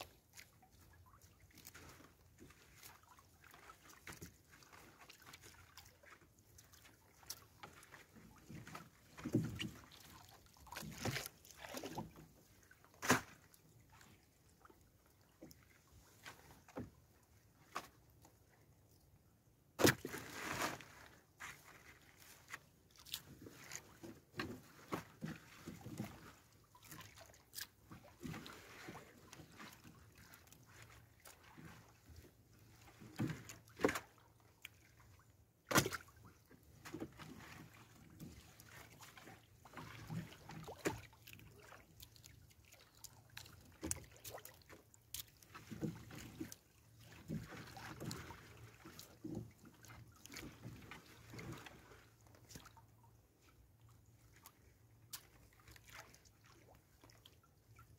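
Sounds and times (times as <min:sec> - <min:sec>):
water sloshing and dripping: 0:00.0 - 0:57.9.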